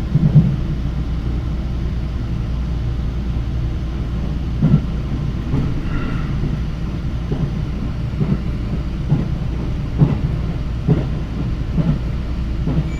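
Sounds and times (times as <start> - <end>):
train rumble: 0.0 - 12.9.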